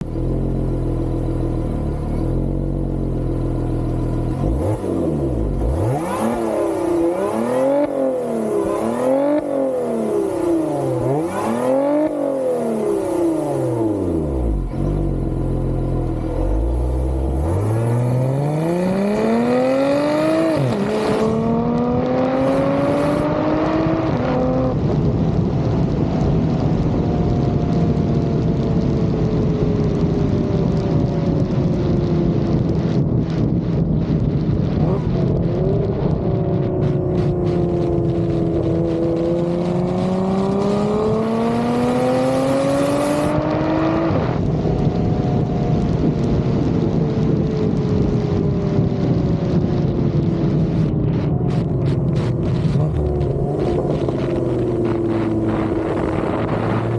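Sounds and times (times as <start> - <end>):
car engine idling and revving: 0.0 - 56.9
wind noise: 0.0 - 56.9.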